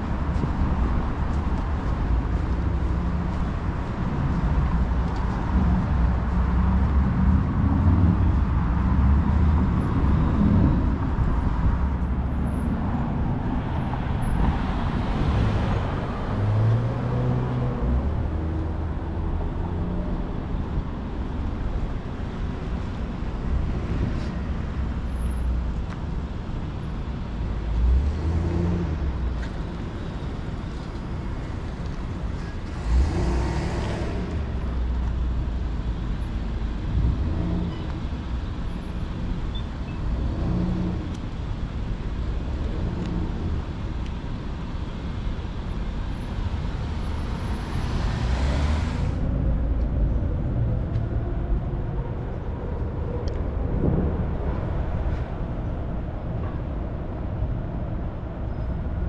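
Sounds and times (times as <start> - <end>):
traffic rumble: 0.0 - 59.0
vehicles passing: 0.0 - 59.0.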